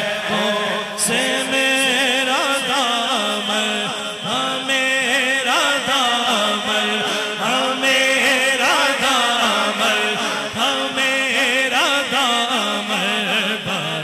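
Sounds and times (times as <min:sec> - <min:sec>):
steady held drone: 0:00.0 - 0:13.8
man singing into a microphone: 0:00.0 - 0:14.0.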